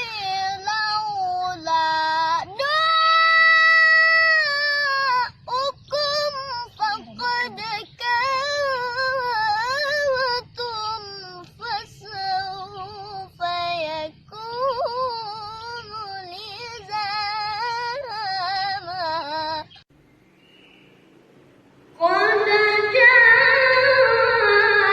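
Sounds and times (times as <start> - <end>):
boy reciting melodically: 0.0 - 19.8, 22.0 - 24.9.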